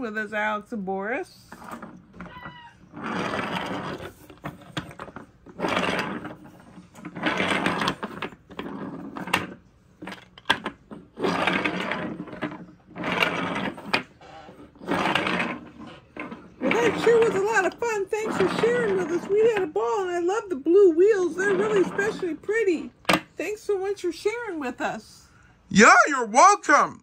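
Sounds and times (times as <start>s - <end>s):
toy train wheels rumbling on wood: 1.5s - 24.8s.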